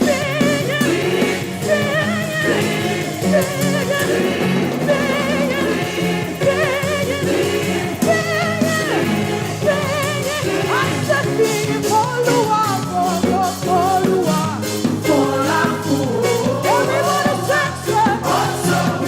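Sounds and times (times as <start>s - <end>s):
drum strikes: 0.0s - 19.0s
voices singing with vibrato: 0.0s - 19.0s.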